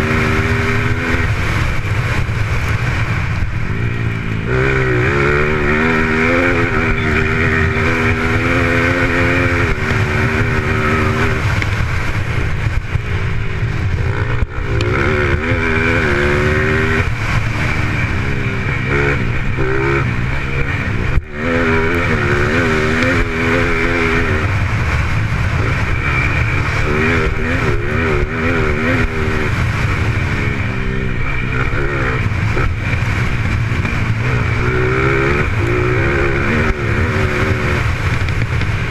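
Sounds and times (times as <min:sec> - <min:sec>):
motocross motorcycle engine racing: 0:00.0 - 0:38.9.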